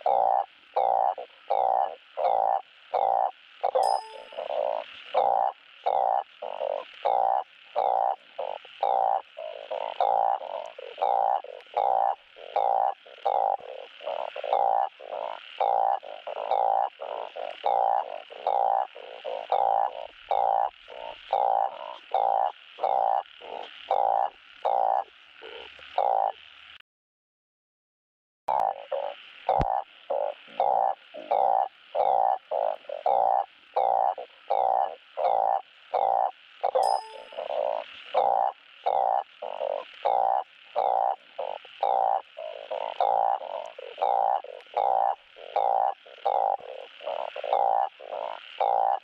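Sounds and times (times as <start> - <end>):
frog croaking: 0.0 - 26.8, 28.5 - 49.0.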